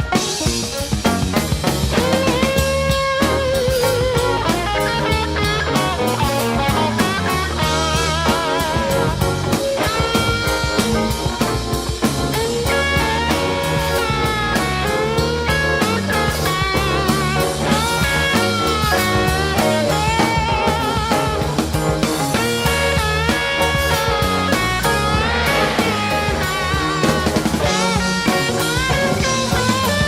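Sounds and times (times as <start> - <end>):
electric guitar lead: 0.0 - 30.0
rock band playing: 0.0 - 30.0.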